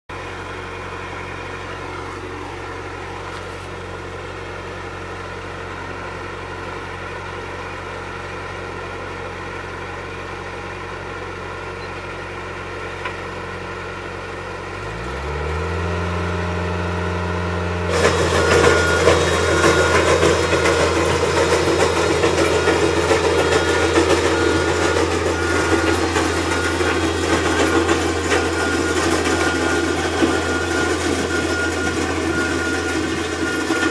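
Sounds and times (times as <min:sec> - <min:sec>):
skid steer engine: 0:00.1 - 0:33.9.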